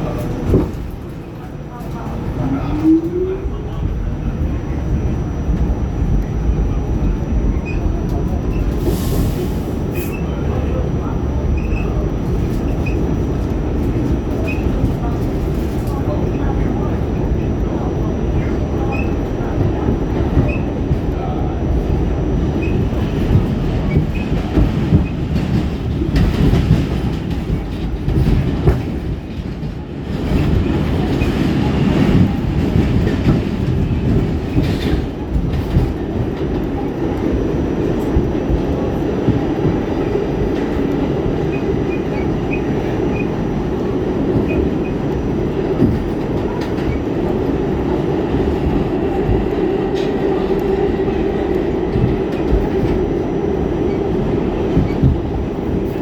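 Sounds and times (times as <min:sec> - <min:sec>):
subway car rumbling: 0:00.0 - 0:56.0.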